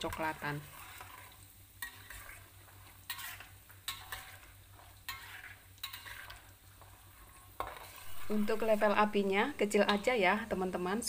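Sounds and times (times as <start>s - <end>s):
metal spatula scraping a wok: 0.0s - 10.1s
peanuts sizzling in oil: 0.0s - 11.0s.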